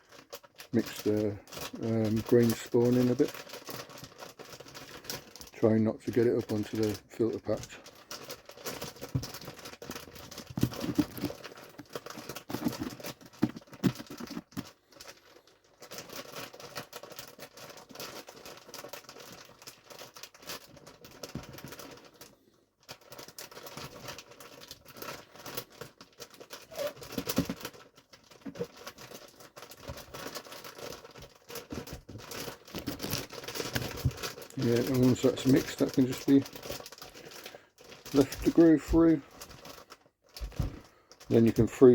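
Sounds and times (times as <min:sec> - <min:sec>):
plastic bag crinkling and rustling: 0:00.0 - 0:41.9.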